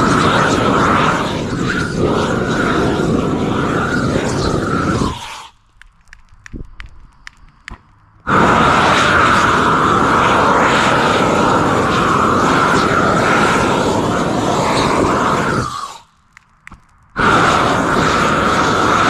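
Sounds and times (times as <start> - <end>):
gas torch flame roaring: 0.0 - 5.6, 8.2 - 16.1, 17.2 - 19.0.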